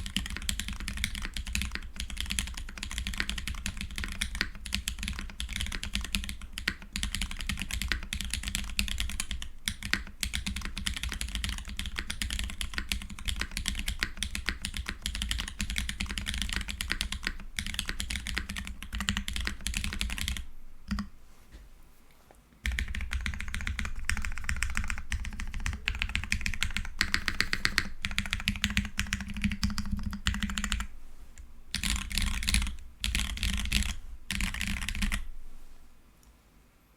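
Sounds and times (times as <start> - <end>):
fast keyboard typing: 0.0 - 21.0, 22.7 - 30.9, 31.7 - 35.2.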